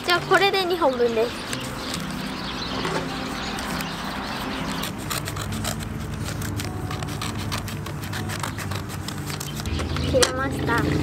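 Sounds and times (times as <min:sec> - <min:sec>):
newspaper rubbing and scraping: 0:00.0 - 0:11.0
newspaper tearing: 0:00.0 - 0:11.0.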